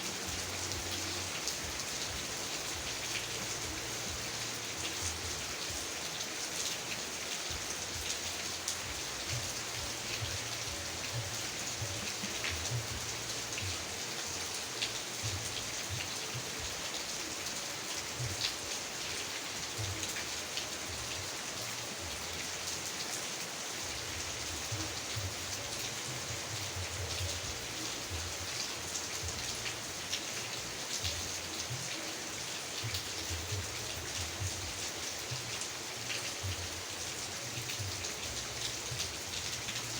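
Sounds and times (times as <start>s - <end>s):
raindrops ticking and thudding: 0.0s - 39.9s
steady rain falling: 0.0s - 39.9s.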